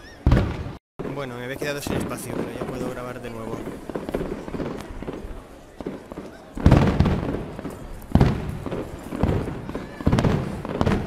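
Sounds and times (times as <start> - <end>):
fireworks booming: 0.2 - 11.0.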